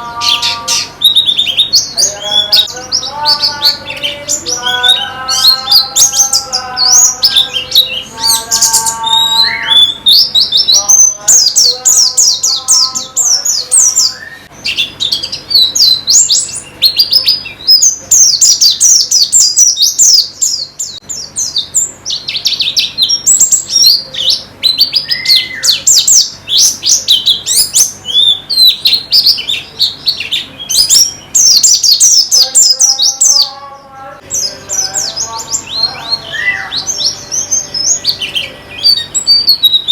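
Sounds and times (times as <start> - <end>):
birds twittering song: 0.0 - 39.9
lower held bird notes: 0.0 - 39.9.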